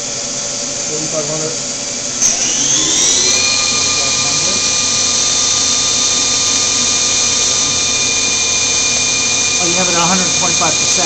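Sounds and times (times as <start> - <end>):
machine spindle whining: 0.0 - 11.0.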